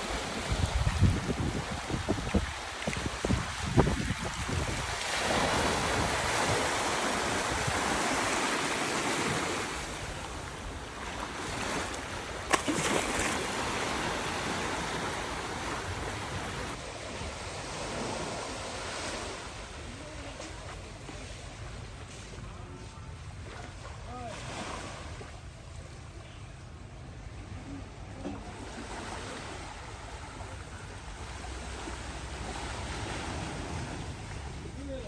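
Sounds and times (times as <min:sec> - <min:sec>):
sea waves washing onto shore: 0:00.0 - 0:26.1, 0:28.4 - 0:35.0.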